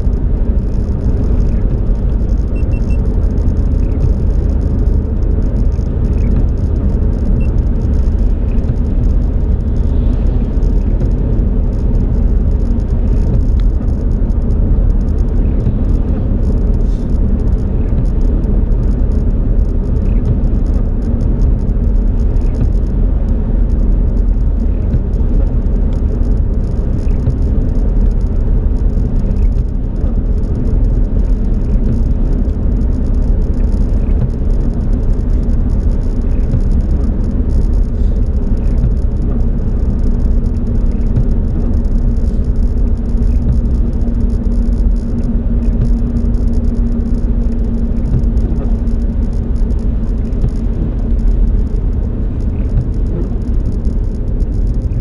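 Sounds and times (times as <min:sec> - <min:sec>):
car cabin road noise: 0:00.0 - 0:55.0.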